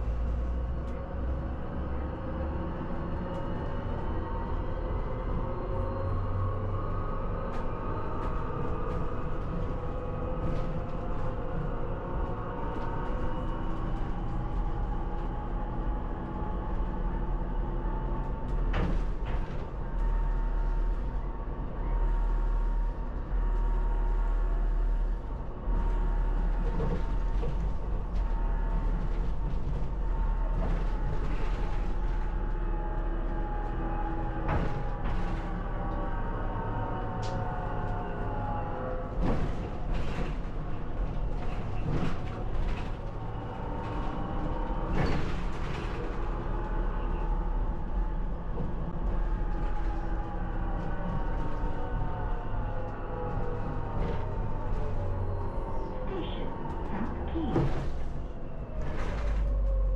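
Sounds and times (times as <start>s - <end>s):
tyres rumbling on road: 0.0s - 59.9s.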